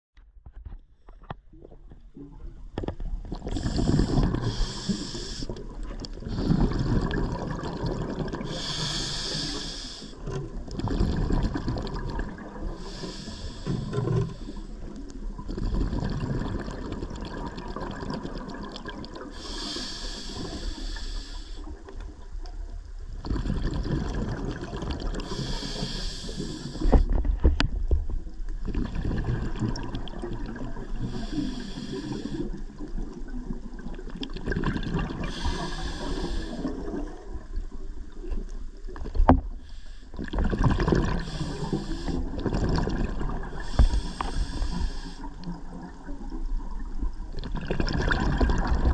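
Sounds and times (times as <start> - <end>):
low water noise: 0.4 - 48.9
underwater regulator exhale bubbling: 2.2 - 27.6, 28.5 - 48.9.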